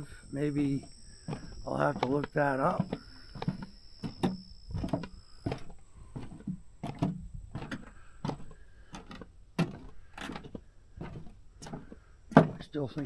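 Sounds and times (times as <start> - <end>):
footsteps on wooden boardwalk: 0.0 - 13.0.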